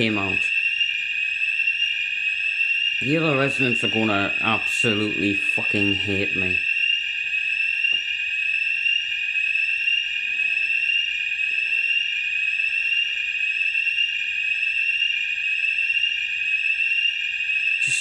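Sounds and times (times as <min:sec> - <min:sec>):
fire alarm shrill electronic tone: 0:00.0 - 0:18.0.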